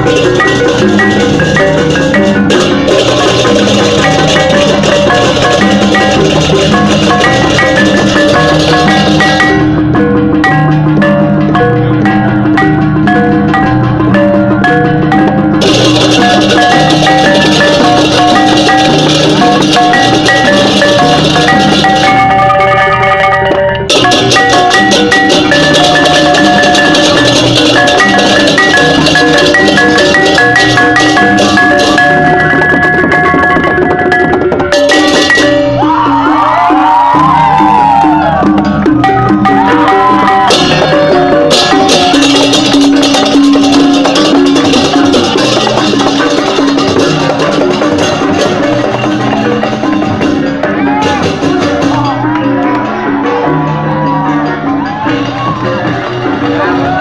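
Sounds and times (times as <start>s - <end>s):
metallophone notes: 0.0s - 57.0s
tuned metal percussion: 0.0s - 57.0s.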